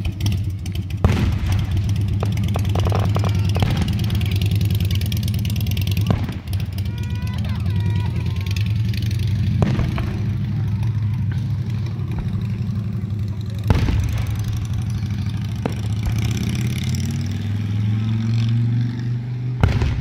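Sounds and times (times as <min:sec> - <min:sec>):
fireworks bursting: 0:00.0 - 0:18.0, 0:19.5 - 0:20.0
low engine hum: 0:00.0 - 0:20.0.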